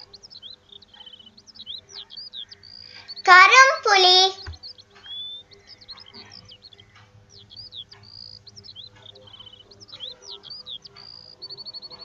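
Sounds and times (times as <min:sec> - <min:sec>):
bird trills: 0:00.0 - 0:12.0
songbirds chirping: 0:00.0 - 0:12.0.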